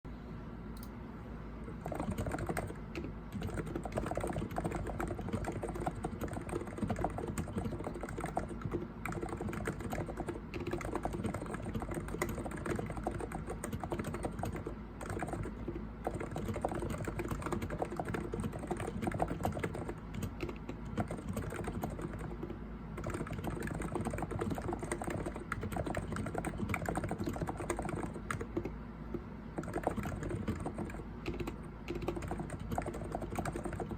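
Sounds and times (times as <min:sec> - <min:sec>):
keyboard typing: 0:01.7 - 0:33.9.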